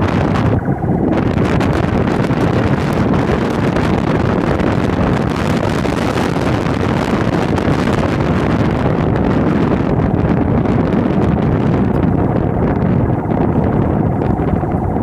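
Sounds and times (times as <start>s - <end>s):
car road noise: 0.0s - 15.0s
wind rush on microphone: 0.0s - 15.0s.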